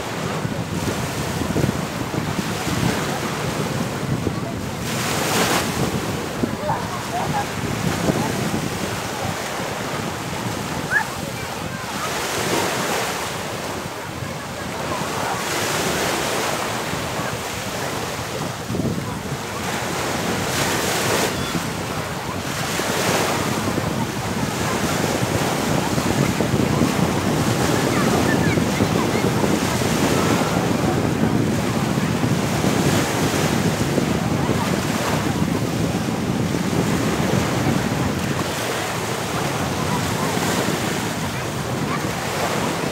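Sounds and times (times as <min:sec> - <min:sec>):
small waves breaking on shore: 0:00.0 - 0:42.9
wind buffeting microphone: 0:00.0 - 0:42.9.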